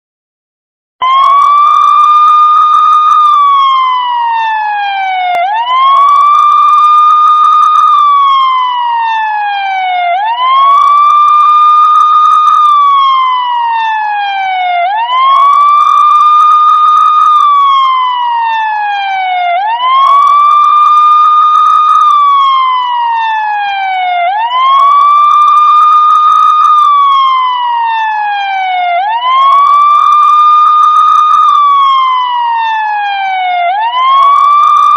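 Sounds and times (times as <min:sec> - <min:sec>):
police siren ringtone wailing: 0:01.0 - 0:34.9.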